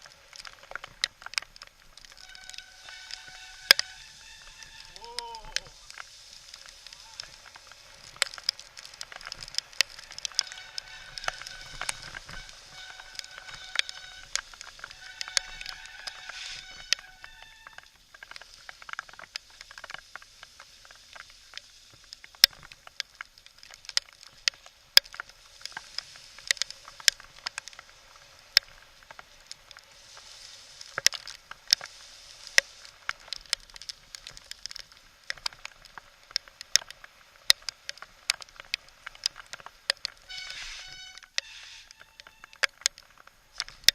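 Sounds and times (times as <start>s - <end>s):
bike rattling on rough trail: 0.0s - 43.9s
heavy rain hiss: 0.0s - 43.9s.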